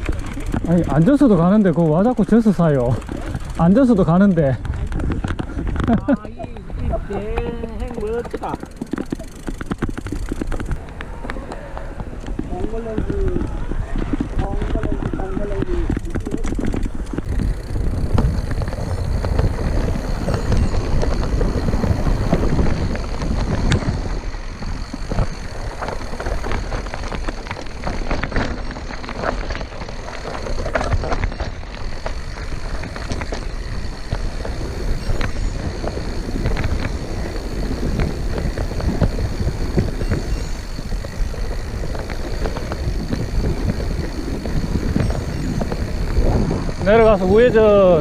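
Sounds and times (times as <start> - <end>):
bike rattles and knocks: 0.0 - 48.0
tyres rumbling on trail: 0.0 - 48.0
wind buffeting microphone: 0.0 - 48.0.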